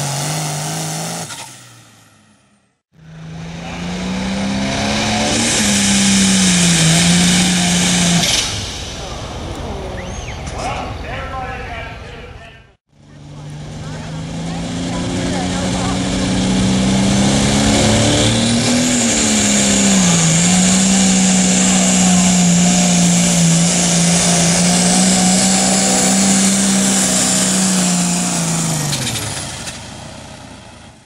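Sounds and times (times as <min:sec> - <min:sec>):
diesel tractor engine under load: 0:00.0 - 0:12.2, 0:12.9 - 0:31.0.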